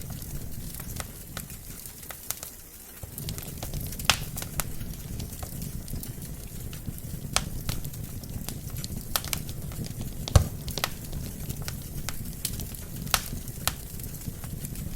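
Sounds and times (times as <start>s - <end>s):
low hiss of flames: 0.0s - 14.9s
wood fire pops and snaps: 0.0s - 14.9s.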